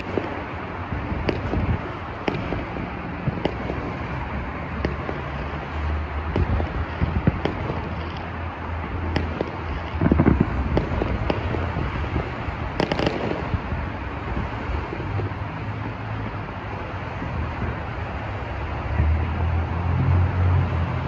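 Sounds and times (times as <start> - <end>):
fireworks booms and pops: 0.0 - 18.0
fireworks crackles: 0.0 - 19.7.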